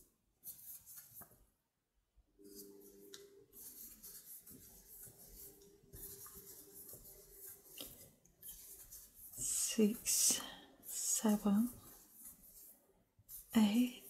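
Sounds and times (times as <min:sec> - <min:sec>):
yarn rubbing on crochet hook: 0:02.4 - 0:14.0.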